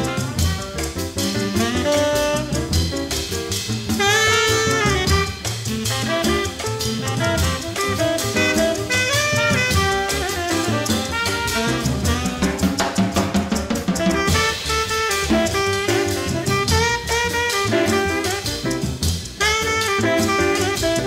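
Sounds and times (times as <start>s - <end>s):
bass: 0.0s - 21.0s
drum kit: 0.0s - 21.0s
saxophone melody: 0.0s - 21.0s.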